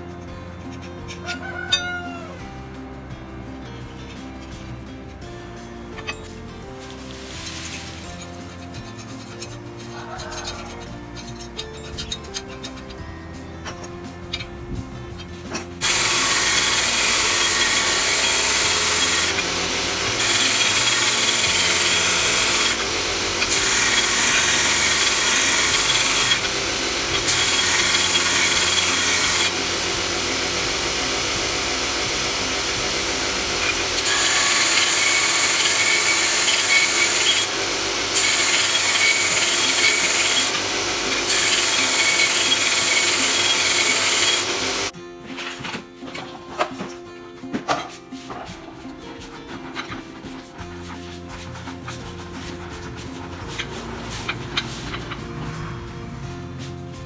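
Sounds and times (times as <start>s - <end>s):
power tool grinding: 3.7s - 45.0s, 49.3s - 56.2s.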